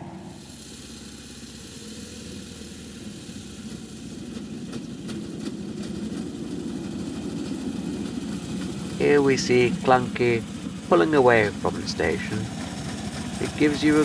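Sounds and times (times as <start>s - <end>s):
small locomotive engine running: 0.0s - 14.0s.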